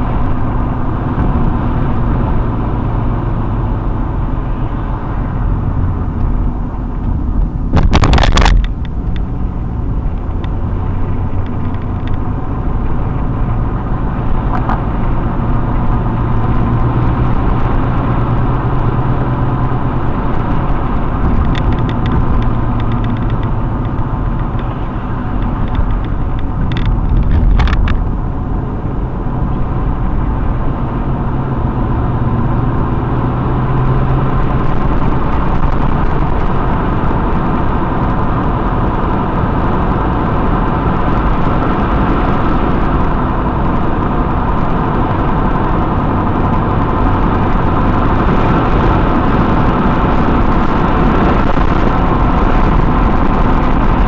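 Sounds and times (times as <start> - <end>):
car engine hum: 0.0 - 54.0
tyre rumble on road: 0.0 - 54.0.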